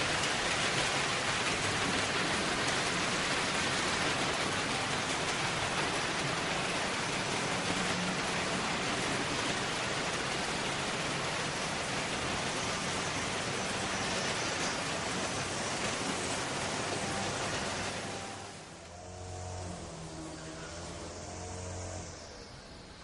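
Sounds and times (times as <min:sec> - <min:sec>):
model train wheels on metal track: 0:00.0 - 0:19.6.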